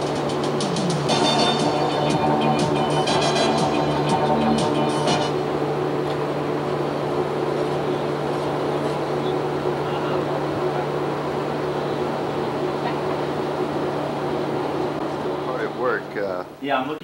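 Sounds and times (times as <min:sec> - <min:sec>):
cooling fans and ventilation hum: 0:00.0 - 0:17.0.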